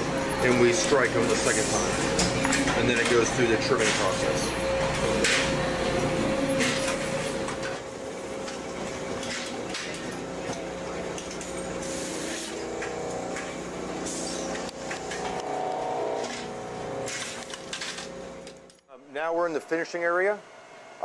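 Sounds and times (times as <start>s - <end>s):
trimming press humming: 0.0s - 18.8s
higher machine drone: 0.0s - 21.0s.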